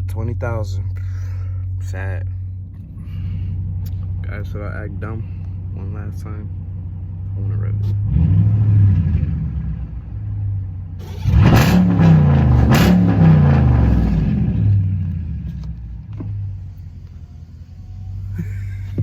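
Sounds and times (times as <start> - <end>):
car engine idling: 0.0 - 19.0
engine revving: 2.7 - 19.0.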